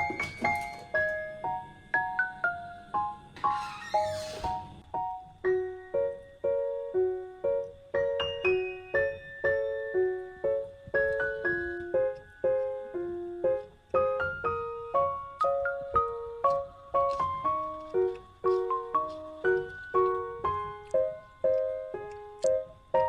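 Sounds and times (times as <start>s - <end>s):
gentle piano melody: 0.0s - 23.0s.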